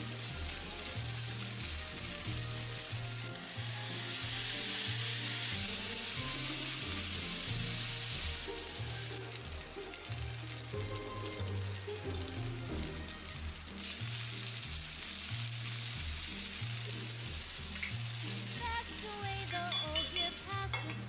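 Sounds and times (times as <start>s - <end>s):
background music: 0.0s - 21.0s
rice sizzling in frying pan: 0.0s - 21.0s.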